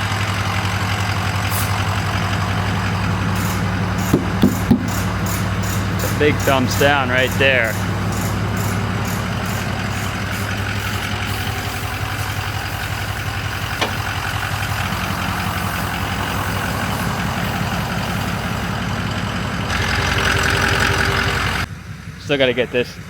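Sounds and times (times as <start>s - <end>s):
diesel truck engine idling: 0.0s - 23.0s
high whine: 1.9s - 21.7s.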